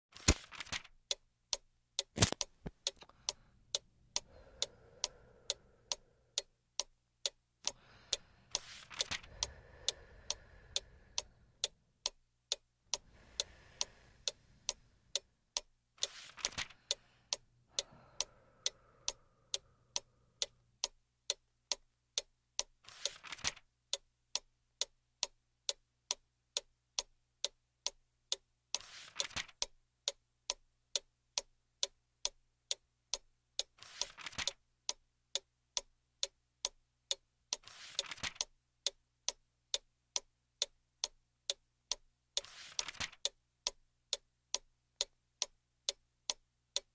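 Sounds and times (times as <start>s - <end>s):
clock ticking: 0.2s - 46.9s.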